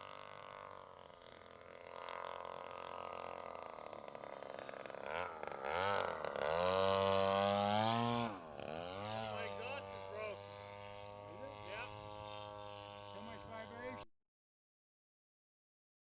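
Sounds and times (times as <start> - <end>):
model plane gas engine revving: 0.0 - 14.1.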